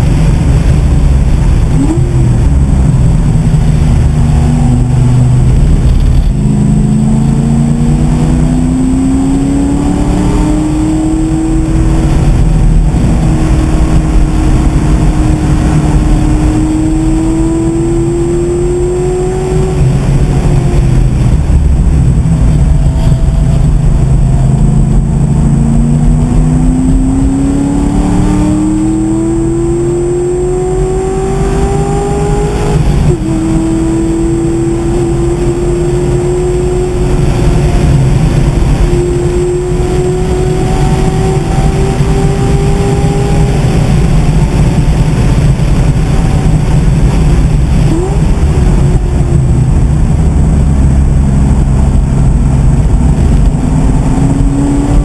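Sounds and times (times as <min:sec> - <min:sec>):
car engine revving at speed: 0:00.0 - 0:55.0
wind and road noise: 0:00.0 - 0:55.0.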